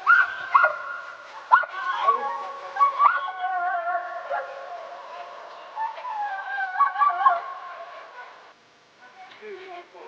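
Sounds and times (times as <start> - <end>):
dogs howling and yelping: 0.0 - 8.4.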